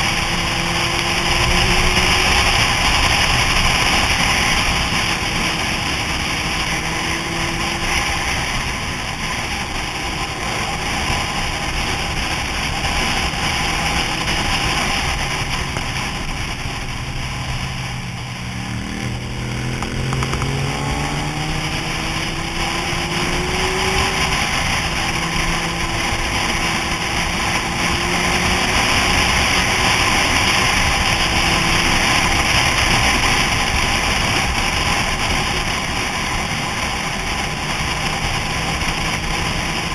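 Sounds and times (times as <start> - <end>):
motorcycle engine: 0.0 - 39.9
wind noise: 0.0 - 39.9.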